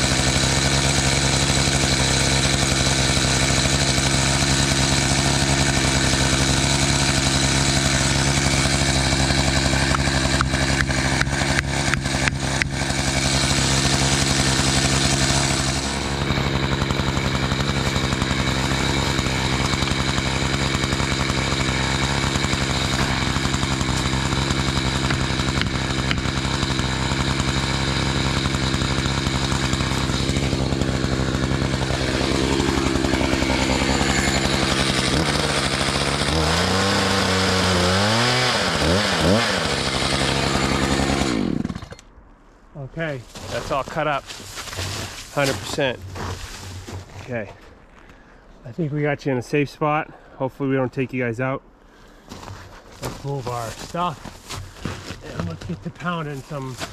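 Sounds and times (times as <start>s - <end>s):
chainsaw cutting wood: 0.0s - 42.1s, 43.3s - 47.4s, 52.3s - 56.9s.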